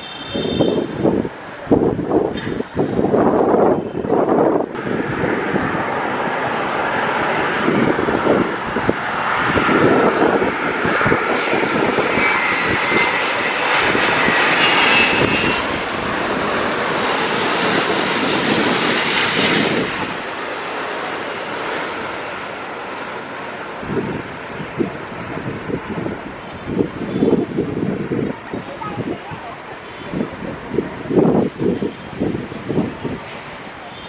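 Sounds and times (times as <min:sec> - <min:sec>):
jet airliner passing overhead: 0:00.0 - 0:34.0.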